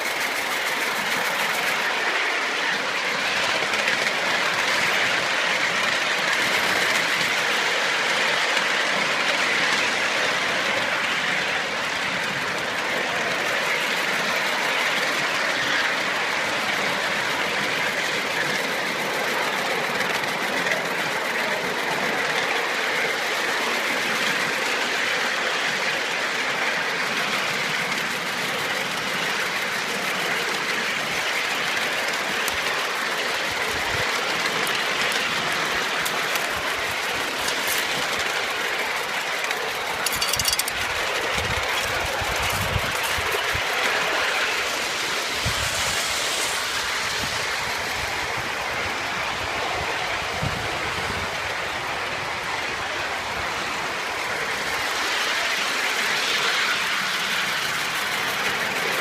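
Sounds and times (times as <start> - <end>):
miniature steam train rushing: 0.0 - 59.0.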